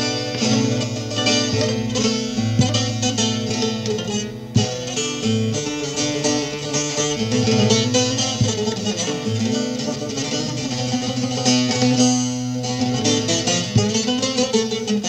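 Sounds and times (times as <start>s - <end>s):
ringing drone strings: 0.0s - 14.6s
plucked saz melody: 0.0s - 15.0s.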